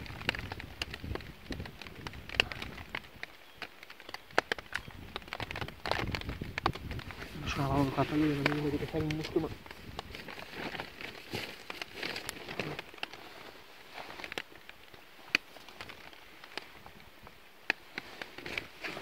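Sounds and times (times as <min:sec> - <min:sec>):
rain jacket rustling: 0:00.0 - 0:19.0.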